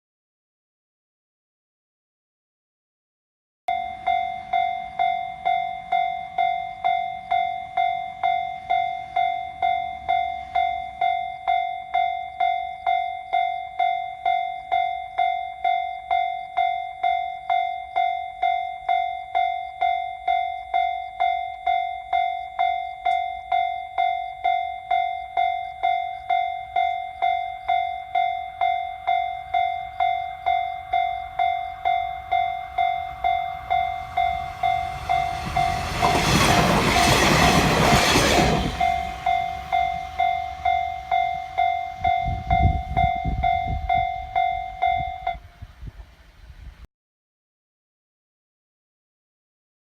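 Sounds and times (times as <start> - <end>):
level crossing bell ringing: 3.7 - 45.4.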